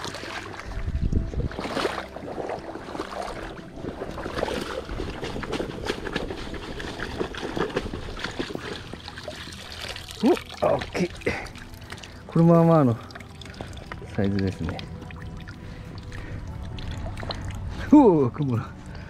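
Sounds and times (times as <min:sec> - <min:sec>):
muddy water splashing: 0:00.0 - 0:19.0.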